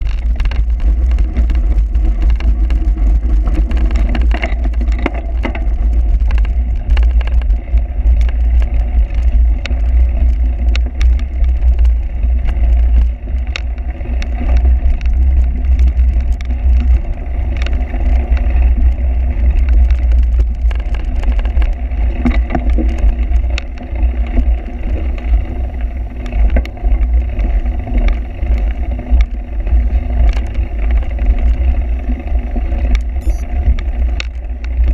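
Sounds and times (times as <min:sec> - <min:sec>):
bike clicking and rattling: 0:00.0 - 0:34.9.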